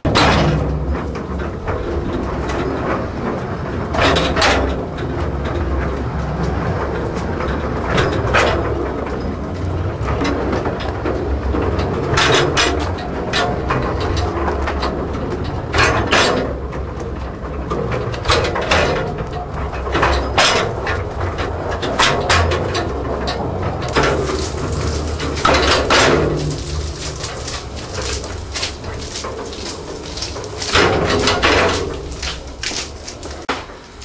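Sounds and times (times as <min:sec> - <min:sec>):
railway wagon rumbling in tunnel: 0:00.0 - 0:34.0
wheels clicking over rail joints: 0:00.0 - 0:34.0.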